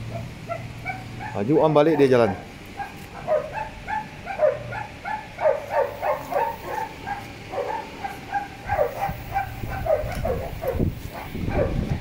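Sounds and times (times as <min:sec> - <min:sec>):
dog whining and yelping: 0:00.1 - 0:01.4, 0:02.0 - 0:11.8.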